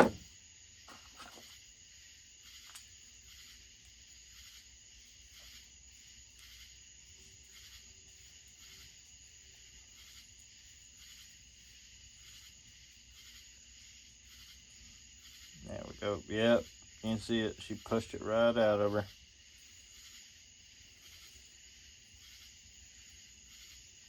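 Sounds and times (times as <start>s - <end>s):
faint crickets chirping: 0.0s - 24.0s.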